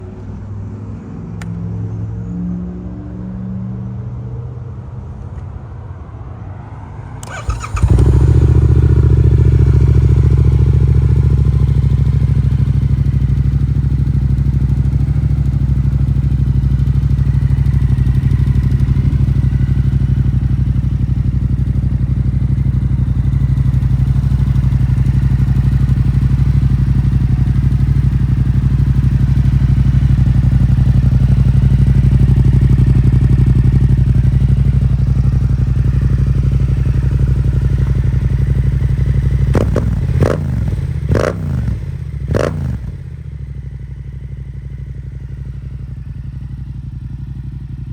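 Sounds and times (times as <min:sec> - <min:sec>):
motorcycle engine idling: 0:07.2 - 0:47.9
motorcycle engine starting: 0:07.2 - 0:47.9.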